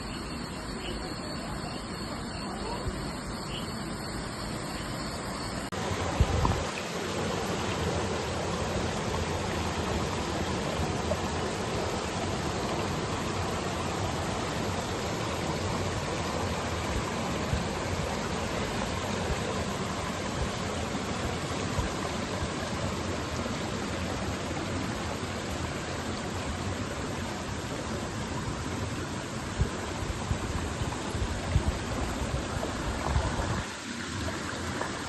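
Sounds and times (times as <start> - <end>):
water flowing: 0.0 - 35.0.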